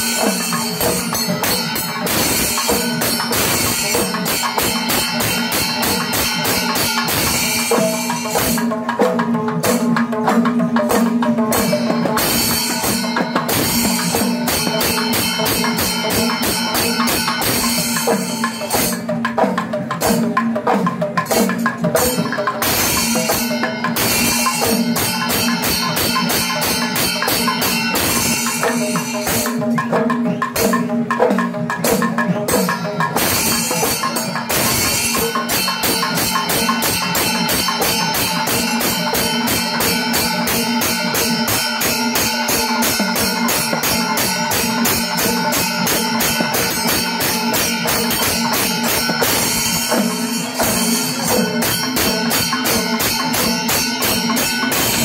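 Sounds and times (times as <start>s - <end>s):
barrel drums struck with sticks: 0.0s - 55.0s
cymbals: 0.0s - 55.0s.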